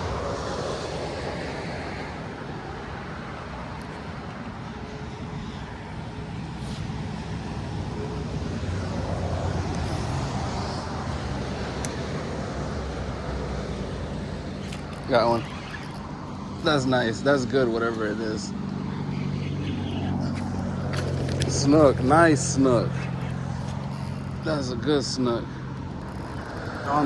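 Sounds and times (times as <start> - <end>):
distant road traffic rumble: 0.0 - 27.0.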